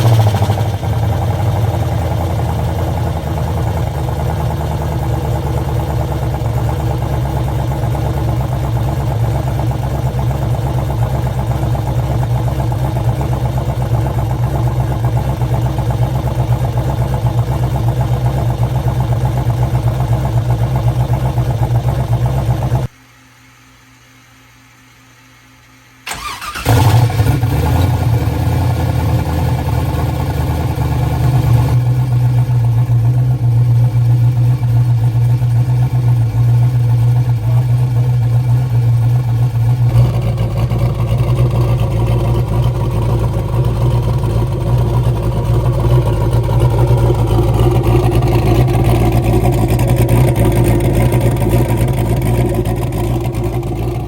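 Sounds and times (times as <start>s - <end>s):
car engine cranking and starting: 0.0s - 22.9s, 26.1s - 54.0s
engine running: 0.0s - 23.0s, 26.1s - 54.0s.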